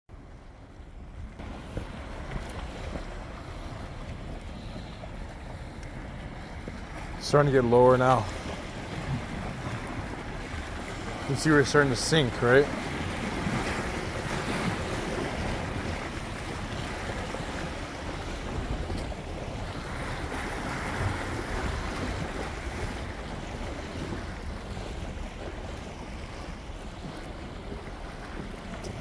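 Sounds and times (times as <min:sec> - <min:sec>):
ocean surf against rocks: 0:00.1 - 0:29.0
wind buffeting microphone: 0:00.2 - 0:29.0.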